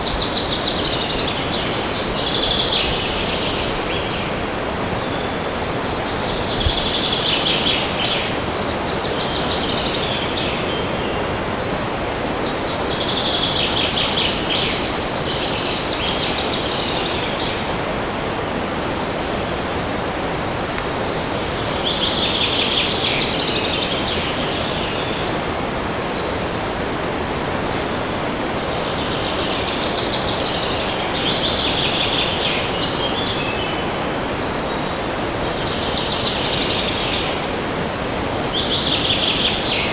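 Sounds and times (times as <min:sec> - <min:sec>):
wind in trees: 0:00.0 - 0:39.9.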